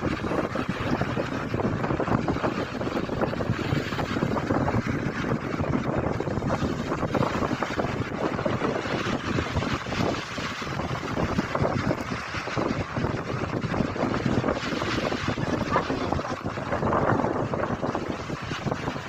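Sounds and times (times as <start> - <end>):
sea surf on pebble beach: 0.0 - 19.0
wind buffeting microphone: 0.0 - 19.0.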